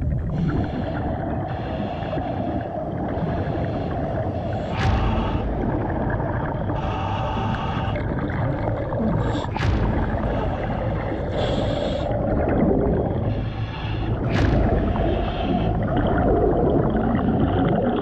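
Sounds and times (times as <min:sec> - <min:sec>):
underwater low rumble: 0:00.0 - 0:18.0.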